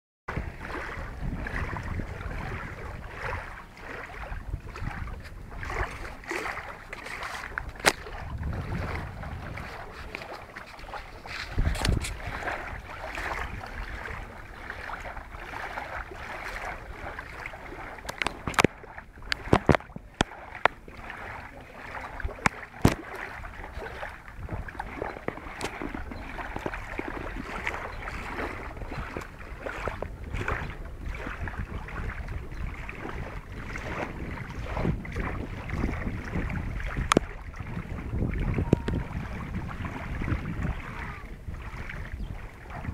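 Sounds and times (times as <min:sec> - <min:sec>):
wind buffeting microphone: 0:00.3 - 0:42.9.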